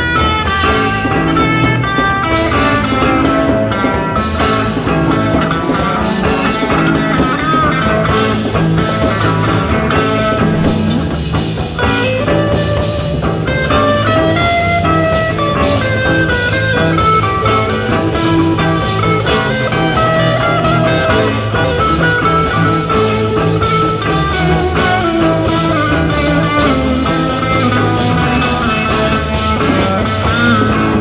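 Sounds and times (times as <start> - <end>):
drum kit beat: 0.0 - 31.0
electric guitar lines: 0.0 - 31.0.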